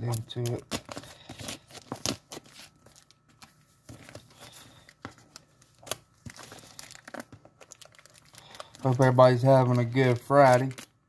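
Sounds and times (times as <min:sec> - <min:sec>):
packaging tearing and crinkling: 0:00.0 - 0:11.0.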